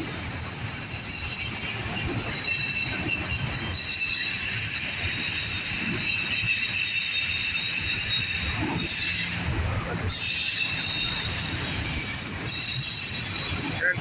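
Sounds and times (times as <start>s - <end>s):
low rumble of train cars: 0.0s - 14.0s
train wheels squealing: 0.0s - 14.0s.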